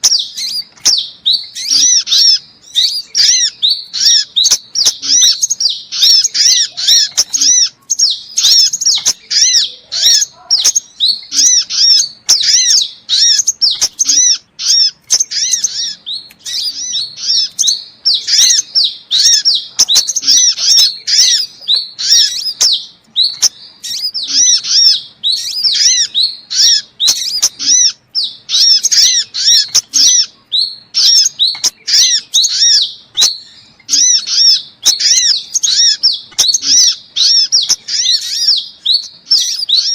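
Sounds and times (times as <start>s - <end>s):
high sharp bird chirps: 0.0s - 39.9s.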